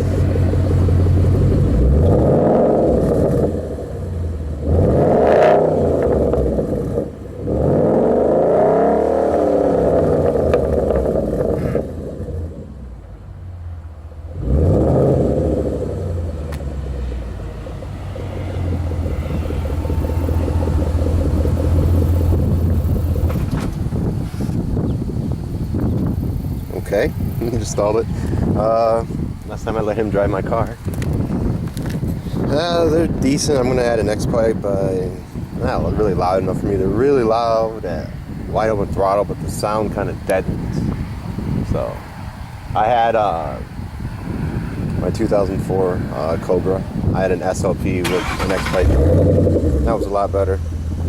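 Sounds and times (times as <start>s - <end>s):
car exhaust idling and revving: 0.0s - 51.0s.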